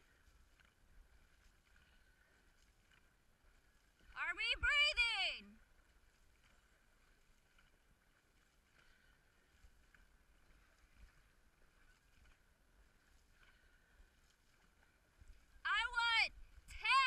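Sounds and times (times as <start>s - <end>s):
paddles splashing in water: 0.0s - 17.0s.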